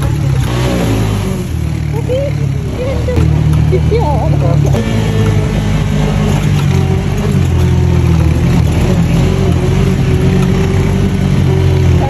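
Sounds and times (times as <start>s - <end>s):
off-road buggy engine running: 0.0s - 12.0s.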